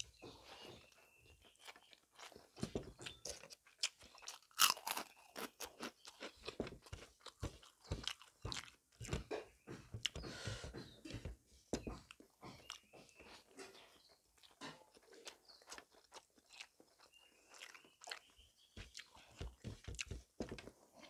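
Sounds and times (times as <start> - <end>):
crunchy food being chewed: 0.0 - 10.2, 11.1 - 21.0.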